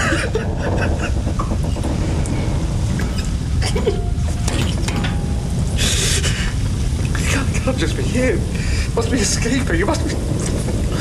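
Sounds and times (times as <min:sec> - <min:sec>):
heavy low rumble: 0:00.0 - 0:11.0
mechanical clanks and creaks: 0:00.0 - 0:11.0.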